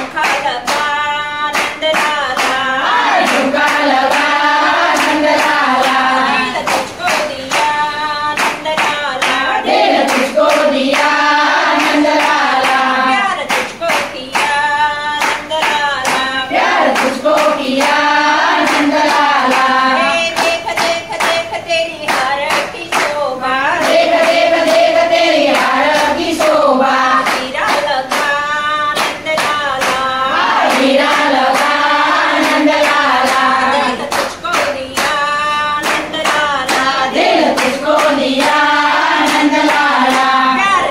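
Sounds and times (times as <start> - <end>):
hands clapping a beat: 0.0 - 40.9
women singing together: 0.0 - 40.9.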